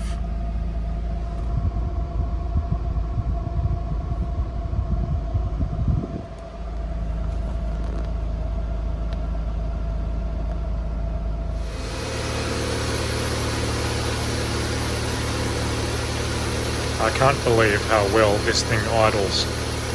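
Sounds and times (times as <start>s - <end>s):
air conditioning tone: 0.0s - 19.9s
car engine idling: 0.0s - 19.9s.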